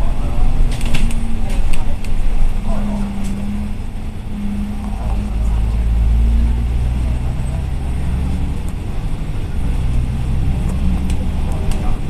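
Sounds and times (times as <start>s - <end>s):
bus engine drone: 0.0s - 12.0s
road rumble: 0.0s - 12.0s.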